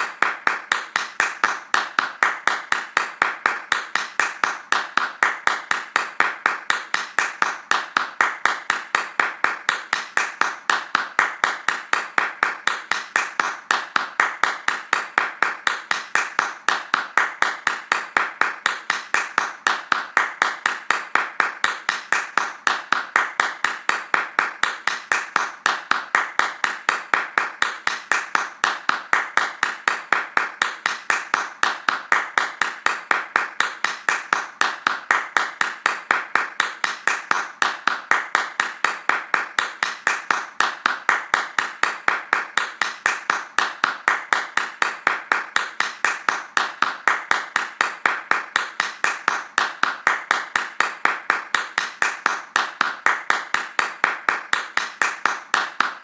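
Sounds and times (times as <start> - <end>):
hands clapping fast: 0.0 - 56.0.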